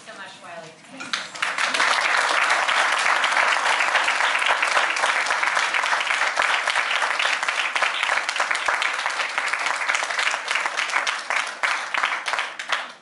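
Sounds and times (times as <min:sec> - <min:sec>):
audience clapping: 0:01.1 - 0:13.0.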